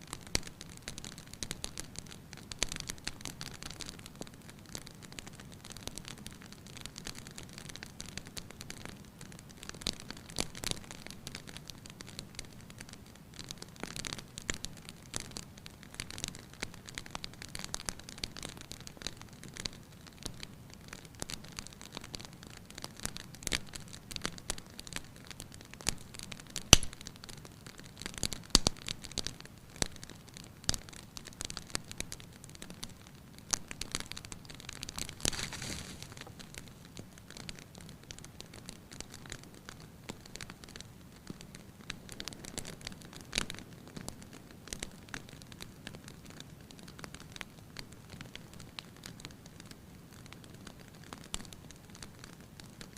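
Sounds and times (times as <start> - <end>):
soft steady hiss: 0.0 - 52.9
wood fire crackling: 0.0 - 52.9.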